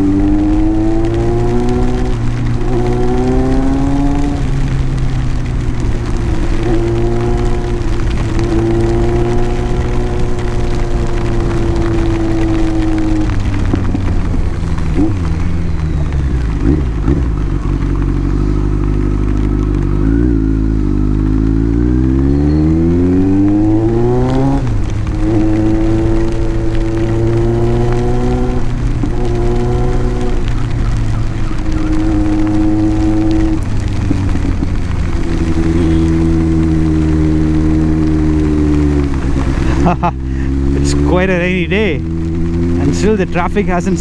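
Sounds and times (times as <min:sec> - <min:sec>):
motorcycle engine cruising and revving: 0:00.0 - 0:44.0.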